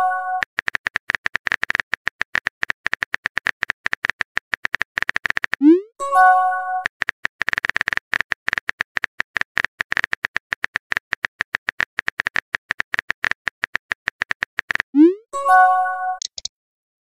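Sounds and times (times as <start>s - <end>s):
phone keyboard tapping clicks: 0.4s - 5.6s, 6.8s - 15.0s, 16.2s - 16.5s.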